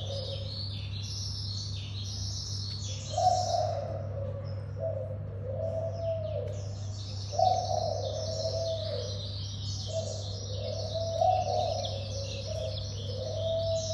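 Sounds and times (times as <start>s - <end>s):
high bird chirping and twittering: 0.0s - 4.0s, 6.1s - 13.9s
steady low hum: 0.0s - 13.9s.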